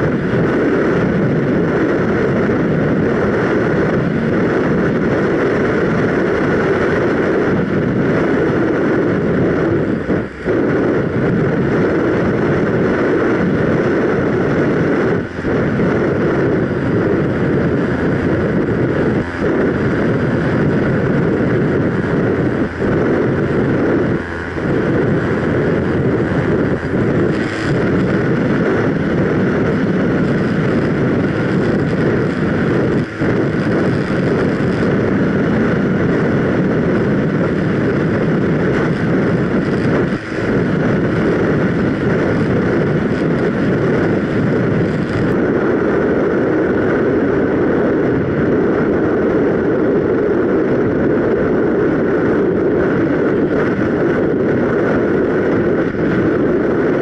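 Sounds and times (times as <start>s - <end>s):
air rushing past glider: 0.0s - 57.0s.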